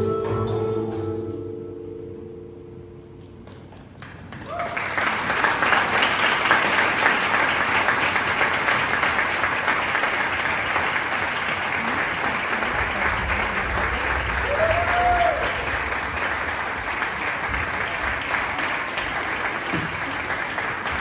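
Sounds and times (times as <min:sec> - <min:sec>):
audience applauding: 0:03.4 - 0:21.0.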